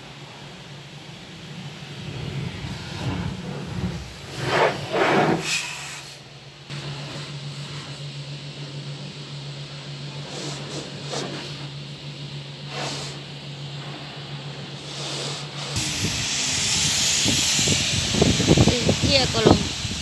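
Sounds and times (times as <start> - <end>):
low hum: 0.0 - 20.0
pressure washer spraying water on car: 0.0 - 20.0.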